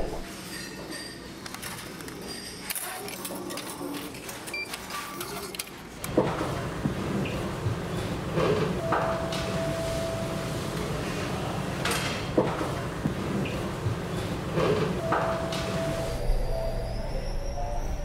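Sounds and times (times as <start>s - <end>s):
vending machine clicking and whirring: 1.4s - 17.0s.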